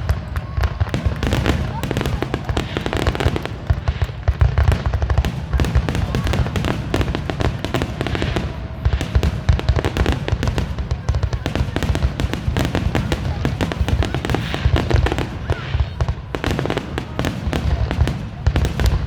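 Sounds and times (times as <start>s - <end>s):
fireworks booming and crackling: 0.0s - 19.0s.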